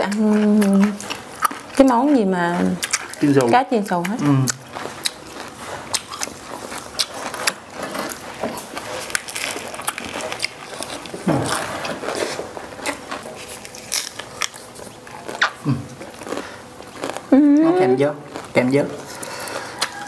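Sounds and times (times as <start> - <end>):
crunchy chewing of fried fish: 0.0 - 17.4, 18.0 - 20.0.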